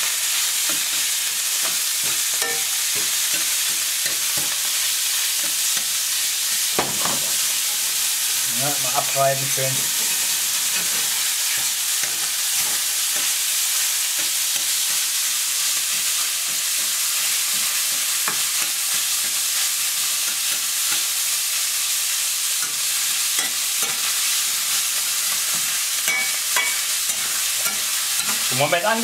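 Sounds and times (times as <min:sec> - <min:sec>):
meat sizzling in a frying pan: 0:00.0 - 0:29.0
metal spatula scraping a pan: 0:00.6 - 0:08.0, 0:09.4 - 0:21.0, 0:22.6 - 0:28.6.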